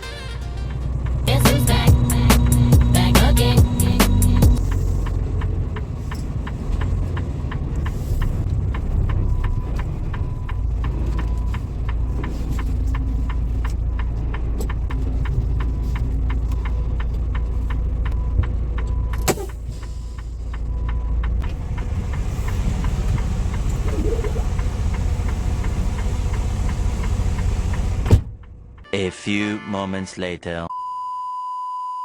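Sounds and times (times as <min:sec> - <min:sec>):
truck engine rumbling: 0:00.0 - 0:28.9
regular ticking: 0:00.7 - 0:28.9.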